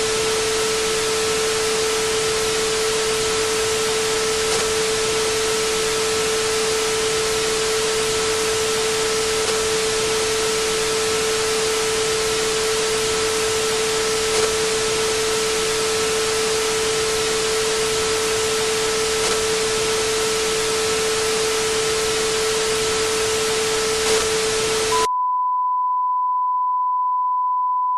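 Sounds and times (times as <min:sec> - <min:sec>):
television static hiss: 0:00.0 - 0:25.0
steady sine test tone: 0:00.0 - 0:27.9.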